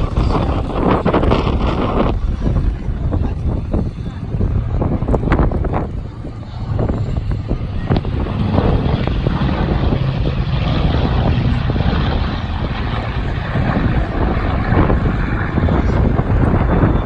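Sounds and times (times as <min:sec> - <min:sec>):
aircraft engine flying past: 0:00.0 - 0:17.0
wind rumble on microphone: 0:00.0 - 0:17.0.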